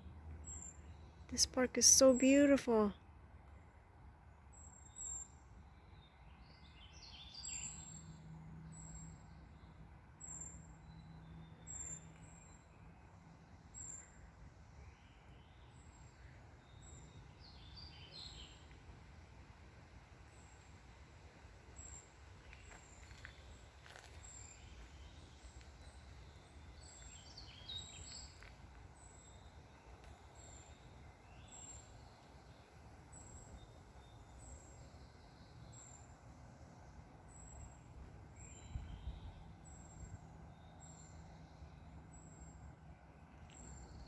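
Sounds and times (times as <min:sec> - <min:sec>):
faint birdsong: 0:00.0 - 0:44.0.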